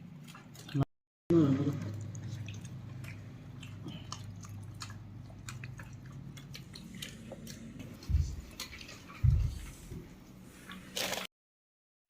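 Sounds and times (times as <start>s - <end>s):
person chewing: 0.0s - 0.8s, 1.6s - 11.3s
low steady hum: 0.0s - 11.2s.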